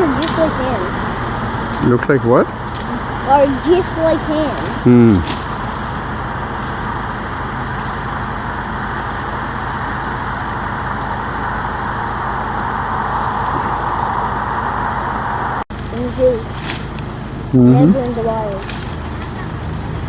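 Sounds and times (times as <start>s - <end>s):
vehicle rumble: 0.0s - 20.0s.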